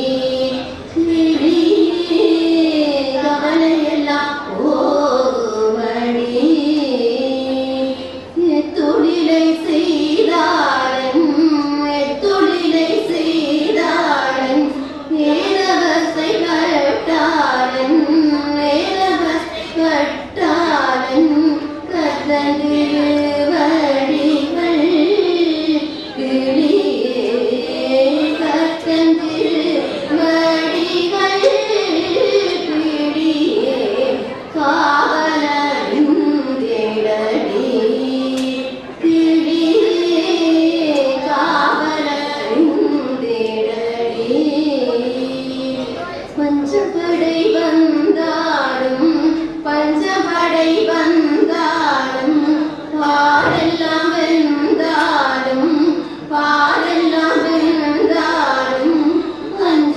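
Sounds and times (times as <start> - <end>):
women singing together: 0.0 - 59.9.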